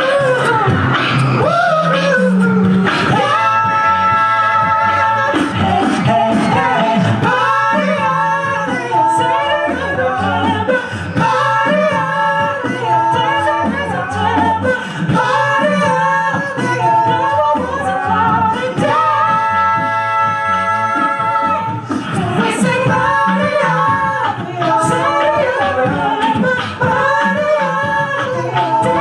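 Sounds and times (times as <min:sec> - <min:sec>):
male a cappella group singing: 0:00.0 - 0:29.0.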